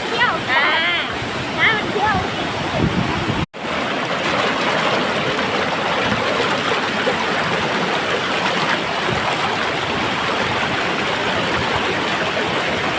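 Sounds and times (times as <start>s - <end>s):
waterfall rushing over rocks: 0.0s - 12.9s.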